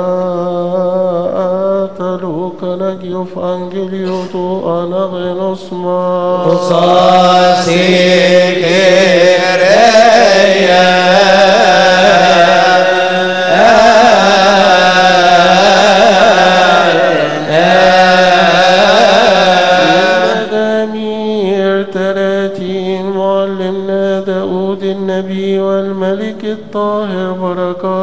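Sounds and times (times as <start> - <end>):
voices singing a chant: 0.0 - 28.0.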